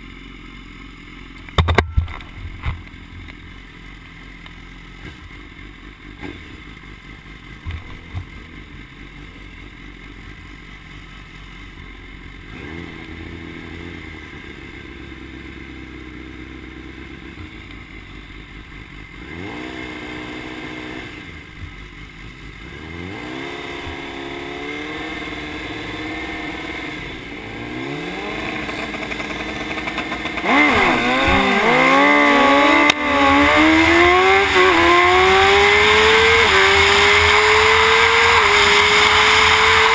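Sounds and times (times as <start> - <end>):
motorcycle accelerating through gears: 0.0 - 39.9
motorcycle engine revving: 0.0 - 39.9.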